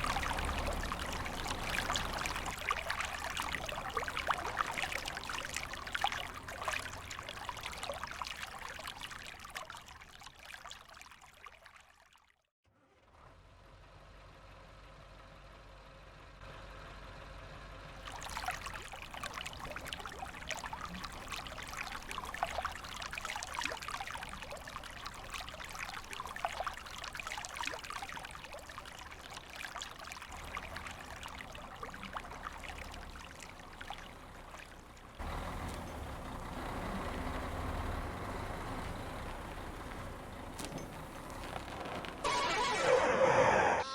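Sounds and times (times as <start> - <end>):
stream water trickling: 0.0 - 12.5, 17.9 - 42.8.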